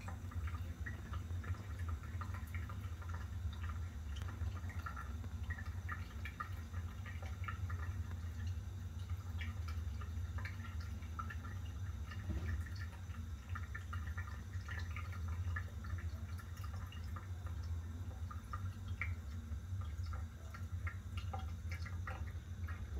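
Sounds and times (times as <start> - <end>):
tap water running into sink: 0.0 - 22.9
water dripping: 0.0 - 22.9.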